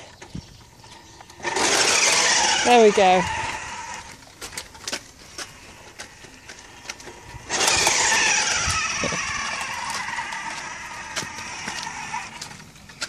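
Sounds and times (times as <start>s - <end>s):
toy truck electronic engine sound: 1.3s - 5.0s, 5.7s - 13.0s.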